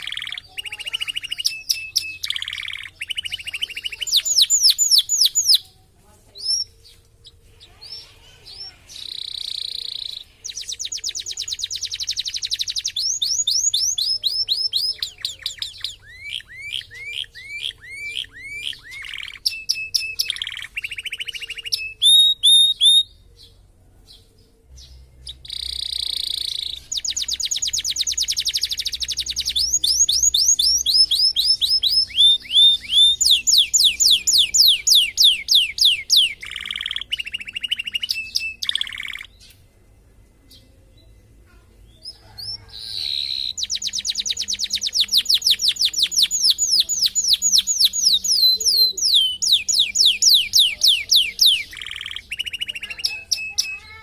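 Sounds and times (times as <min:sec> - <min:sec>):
canary singing: 0:00.0 - 0:39.7, 0:40.5 - 0:54.0.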